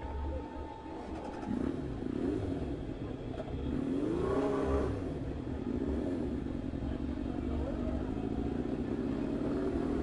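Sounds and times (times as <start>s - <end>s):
road and wind noise: 0.0s - 10.0s
vehicle engine accelerating: 0.9s - 10.0s.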